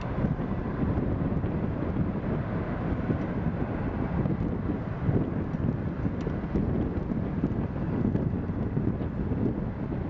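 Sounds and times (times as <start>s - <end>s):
jet engines rumbling at takeoff: 0.0s - 10.0s
wind buffeting microphone: 0.0s - 10.0s.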